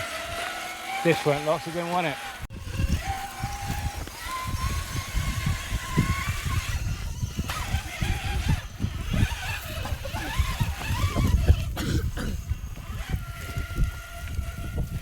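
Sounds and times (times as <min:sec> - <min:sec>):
electric drivetrain whining: 0:00.0 - 0:15.0.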